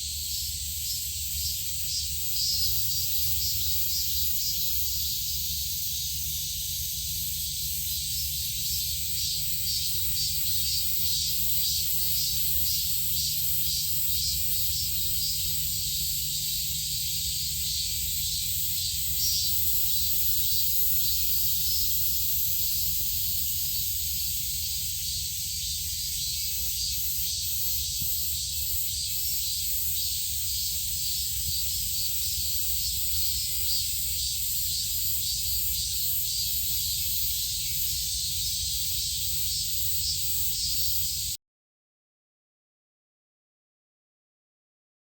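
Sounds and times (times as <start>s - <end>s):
high insect hiss: 0.0s - 41.4s.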